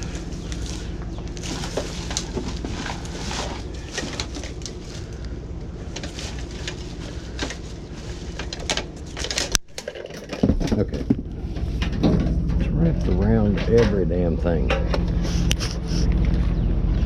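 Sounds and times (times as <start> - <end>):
junk rustling and scraping: 0.0 - 17.0
steady low hum: 0.0 - 17.0.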